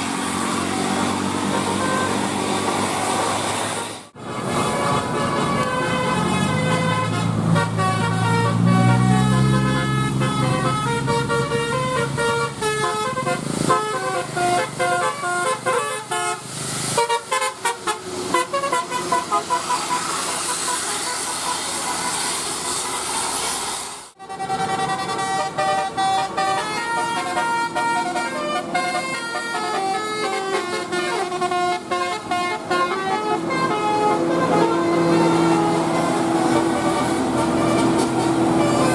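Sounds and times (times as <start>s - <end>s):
bus engine revving: 0.0s - 38.9s
musical air horn tune: 0.5s - 23.2s, 24.2s - 38.9s.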